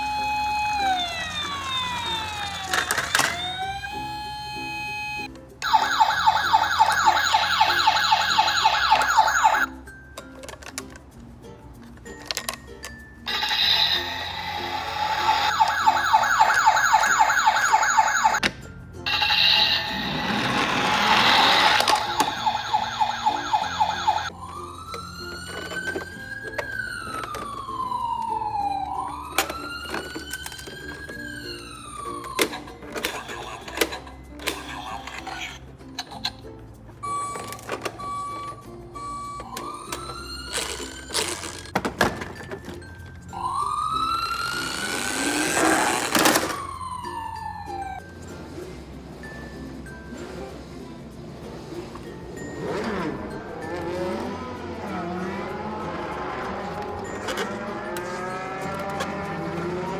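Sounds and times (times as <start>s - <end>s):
electronic ambulance siren: 0.0s - 9.8s, 13.3s - 18.4s, 19.0s - 35.6s, 37.0s - 41.8s, 42.9s - 48.2s, 52.6s - 59.9s
background music: 0.0s - 59.9s.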